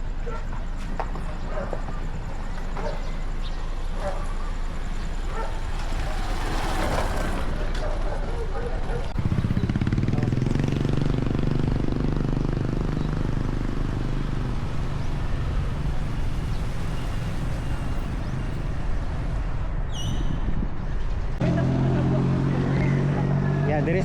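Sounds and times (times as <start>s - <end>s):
vehicle engine running: 0.0s - 19.4s.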